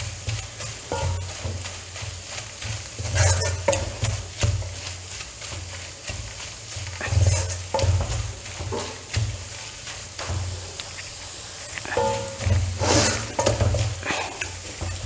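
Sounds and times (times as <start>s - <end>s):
faint sizzle: 0.0s - 15.0s
spoon stirring and scraping: 0.0s - 15.0s.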